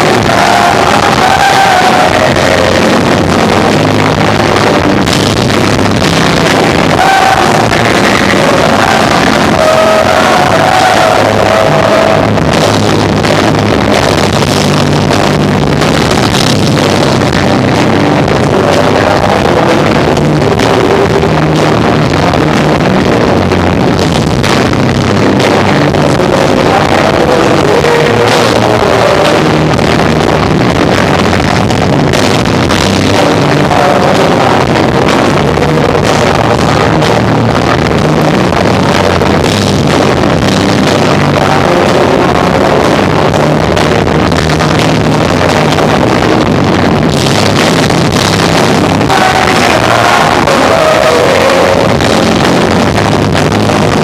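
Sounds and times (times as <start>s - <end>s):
bass guitar: 0.0s - 54.0s
drums playing: 0.0s - 54.0s
electric guitar: 0.0s - 54.0s.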